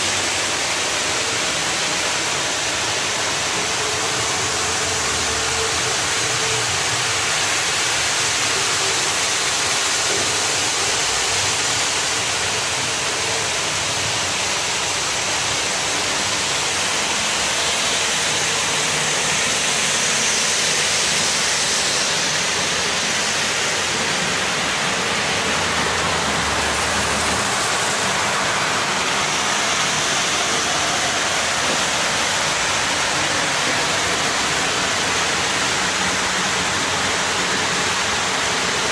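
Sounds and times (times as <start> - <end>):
model trains whirring on rails: 0.0 - 38.9.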